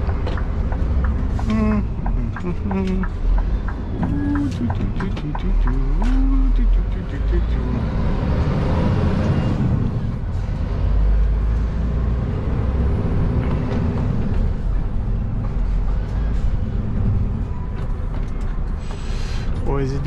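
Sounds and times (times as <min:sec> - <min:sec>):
diesel lorry engine running: 0:00.0 - 0:20.0
road noise: 0:00.0 - 0:20.0.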